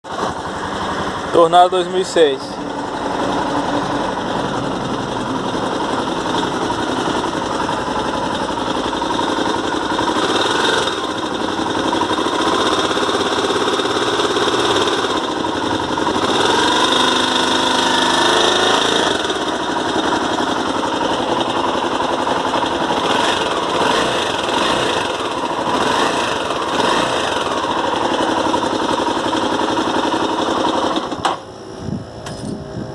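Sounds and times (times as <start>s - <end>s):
motorcycle engine running: 0.1s - 32.9s.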